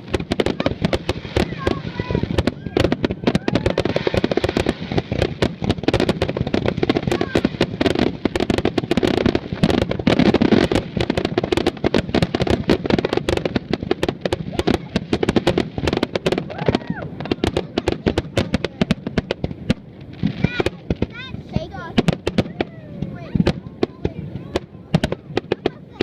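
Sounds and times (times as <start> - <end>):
fireworks barrage: 0.0 - 26.0.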